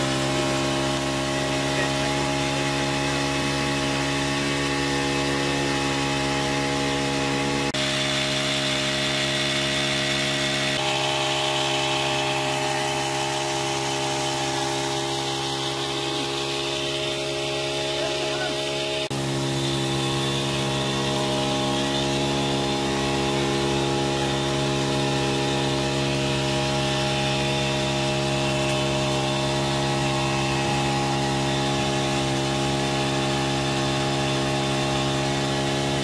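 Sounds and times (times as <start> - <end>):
small petrol engine running: 0.0 - 36.0.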